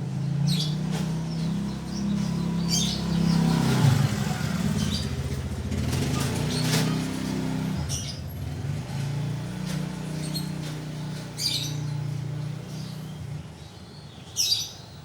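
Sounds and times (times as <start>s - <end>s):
engine hum: 0.0s - 14.4s.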